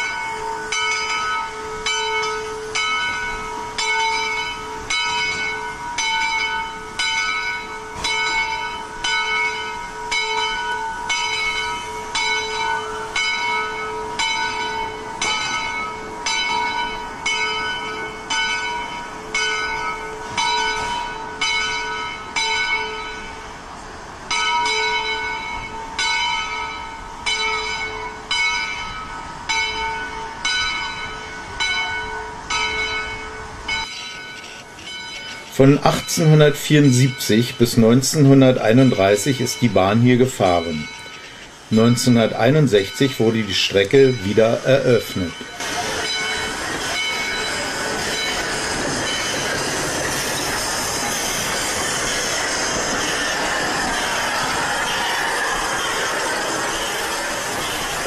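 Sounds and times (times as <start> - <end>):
locomotive bell ringing: 0.0 - 58.0.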